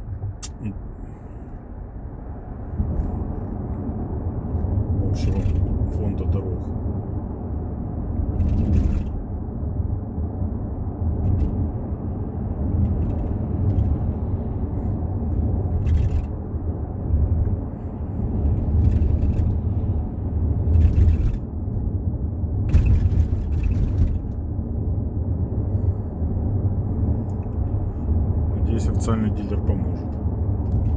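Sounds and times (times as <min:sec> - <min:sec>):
road rumble in car cabin: 0:00.0 - 0:30.9.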